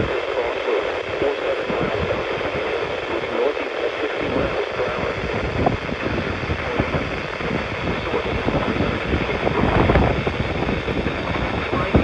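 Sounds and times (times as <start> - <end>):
radio static hiss with crackling: 0.0 - 12.0.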